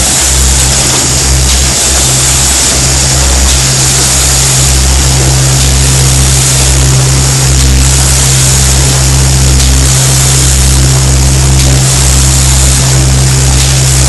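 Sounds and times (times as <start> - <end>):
electromagnetic hum: 0.0 - 14.0.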